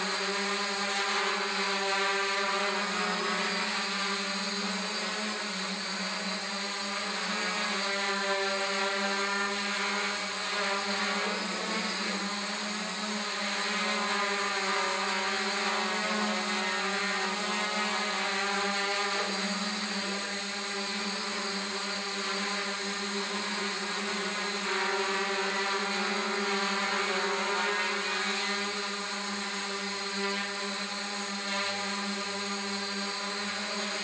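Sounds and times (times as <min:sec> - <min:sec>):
thin high whine: 0:00.0 - 0:34.0.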